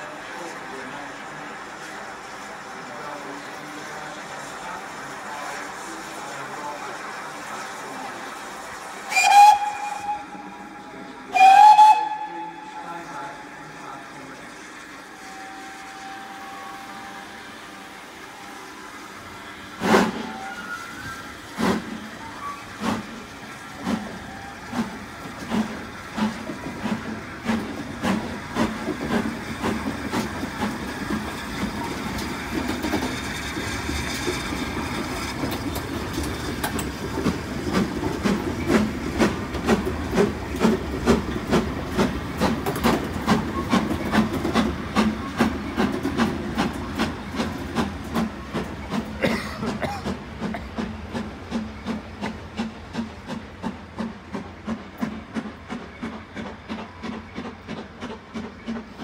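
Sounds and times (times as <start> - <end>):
steam hissing: 0.0 - 59.0
steam locomotive exhaust chuffs: 0.0 - 59.0.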